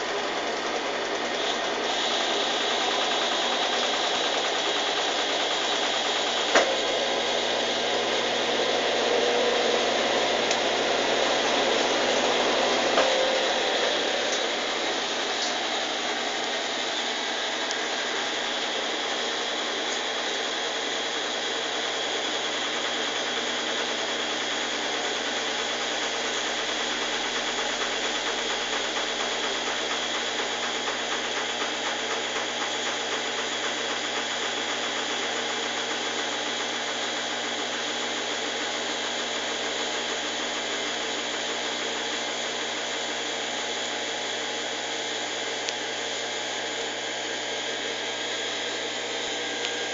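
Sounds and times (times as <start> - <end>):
washing machine spinning: 0.0 - 49.9.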